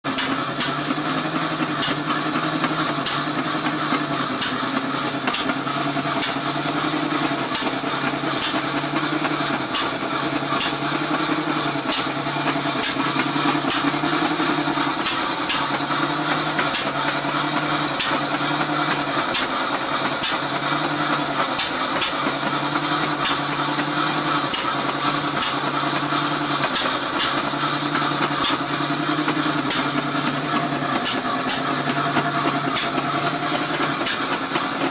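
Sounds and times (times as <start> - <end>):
engine mechanical clatter: 0.0 - 34.9.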